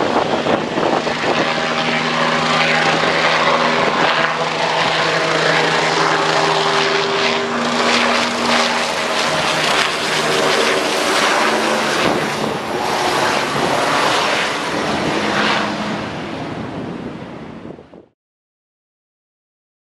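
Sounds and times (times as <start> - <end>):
helicopter rotor chop: 0.0 - 17.9
helicopter engine hum: 0.0 - 18.1.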